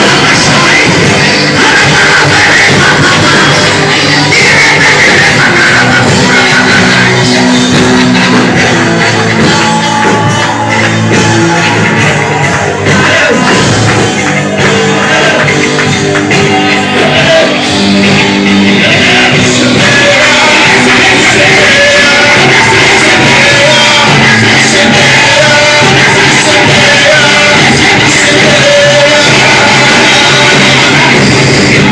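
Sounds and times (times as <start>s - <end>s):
person singing or shouting: 0.0s - 15.6s, 16.3s - 31.9s
loud band music: 0.0s - 31.9s.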